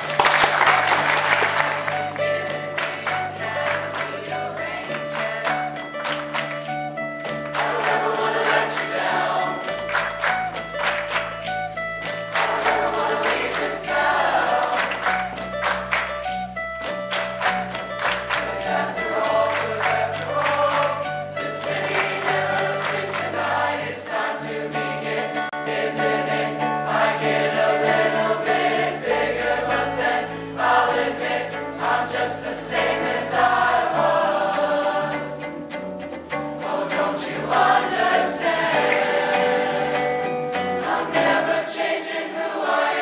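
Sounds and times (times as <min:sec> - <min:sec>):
song with several singing voices: 0:00.6 - 0:06.4, 0:07.4 - 0:10.6, 0:12.3 - 0:15.8, 0:18.3 - 0:35.8, 0:36.4 - 0:43.0.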